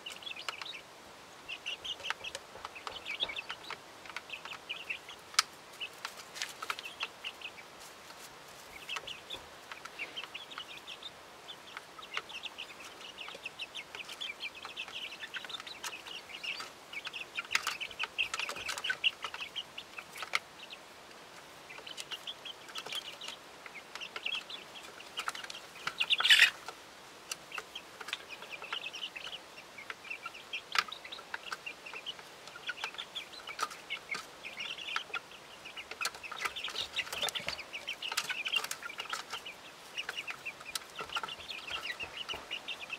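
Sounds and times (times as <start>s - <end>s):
chicks cheeping and trilling: 0.0s - 42.9s.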